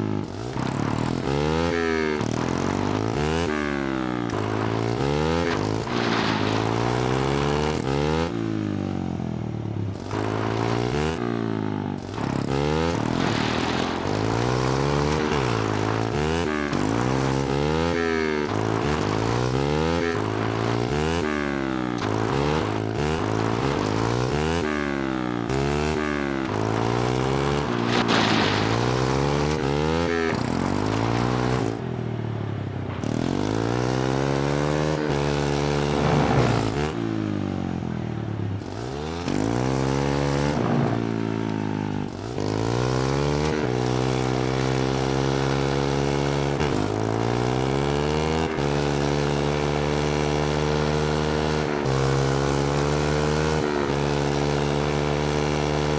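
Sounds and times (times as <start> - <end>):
small engine revving: 0.0 - 9.2, 9.9 - 32.1, 32.9 - 55.9.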